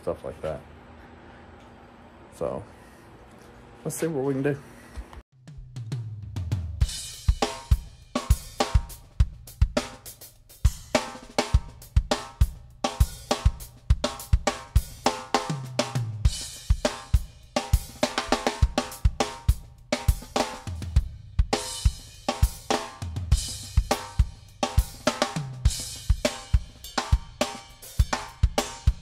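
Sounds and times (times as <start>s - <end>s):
music with drum beat and bass: 5.3s - 29.0s.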